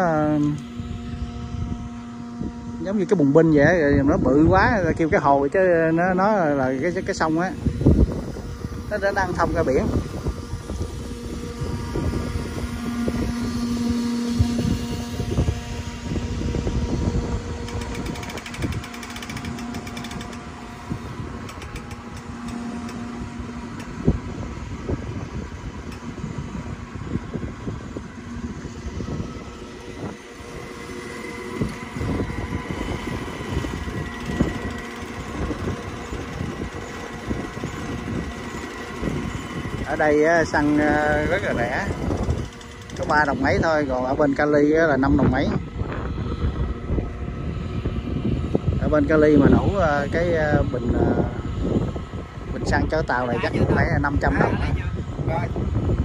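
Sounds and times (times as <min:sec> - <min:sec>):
fuel pump motor humming: 0:00.0 - 0:56.0.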